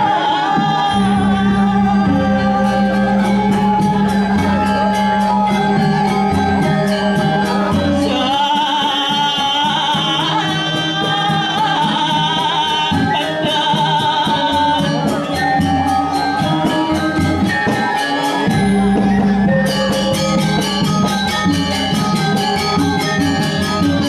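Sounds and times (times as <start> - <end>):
gamelan playing: 0.0 - 24.0.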